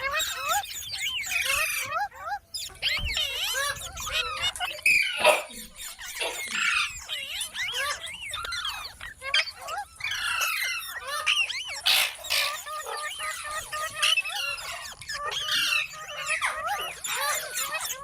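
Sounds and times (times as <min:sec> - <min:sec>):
parrot whistling and screeching: 0:00.0 - 0:18.0.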